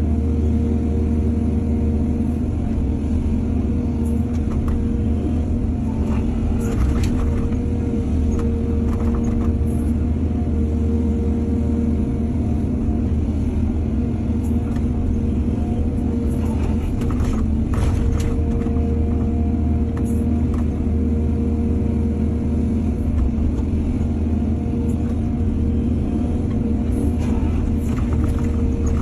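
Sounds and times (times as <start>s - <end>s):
diesel excavator engine running: 0.0s - 29.0s.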